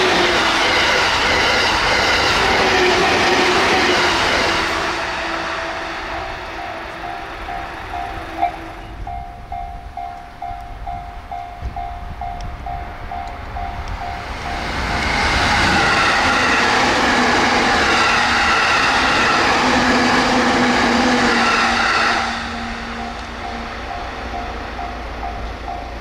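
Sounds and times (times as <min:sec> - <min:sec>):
train wheel and rail noise: 0:00.0 - 0:26.0.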